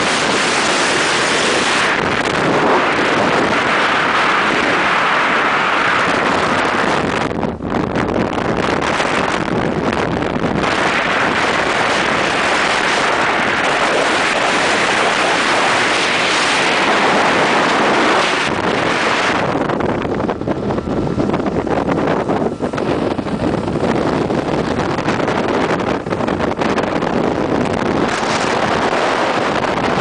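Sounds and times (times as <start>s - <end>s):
outboard motor drone: 0.0s - 30.0s
wind buffeting microphone: 0.0s - 30.0s.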